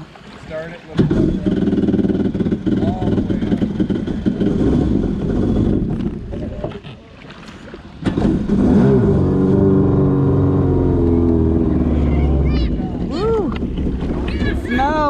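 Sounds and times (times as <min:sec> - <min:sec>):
jet ski engine running: 0:00.5 - 0:06.8, 0:07.6 - 0:15.0.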